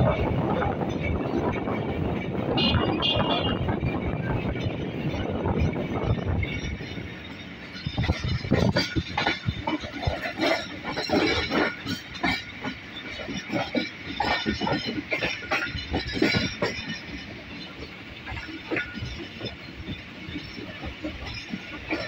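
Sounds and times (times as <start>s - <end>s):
train rumble: 0.0s - 22.0s
train wheels clattering on track: 0.0s - 22.0s.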